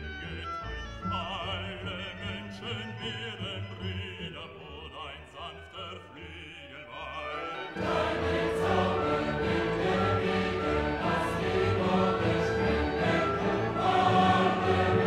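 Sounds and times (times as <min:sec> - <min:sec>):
classical singing with vibrato: 0:00.0 - 0:15.0
sustained orchestral accompaniment: 0:00.0 - 0:15.0.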